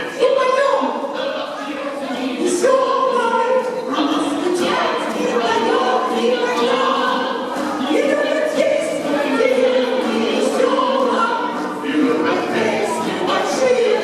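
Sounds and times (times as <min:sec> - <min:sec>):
person singing with accompaniment: 0:01.9 - 0:14.0.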